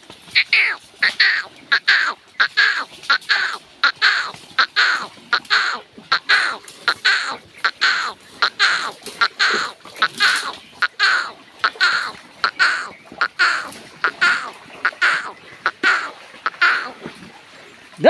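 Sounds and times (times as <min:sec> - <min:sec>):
bird harsh calls: 0:00.3 - 0:17.1.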